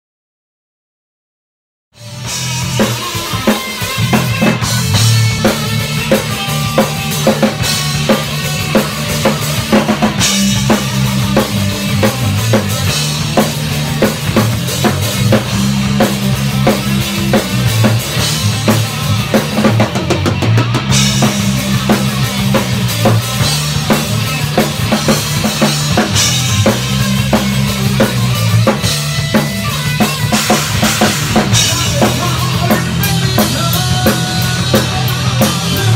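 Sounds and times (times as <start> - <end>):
bass guitar riffing: 2.0 - 35.9
drum kit beat: 2.0 - 35.9
electric guitar riffing: 2.0 - 35.9.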